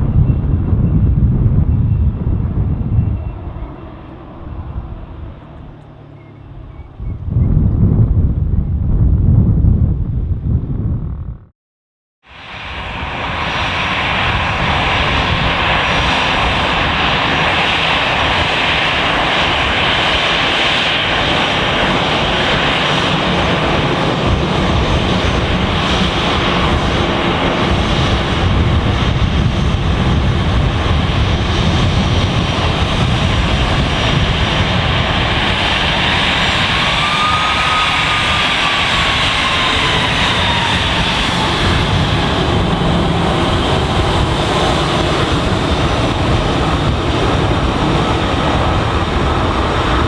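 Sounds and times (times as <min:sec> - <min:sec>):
jet engines running: 0:00.0 - 0:08.0, 0:12.3 - 0:50.0.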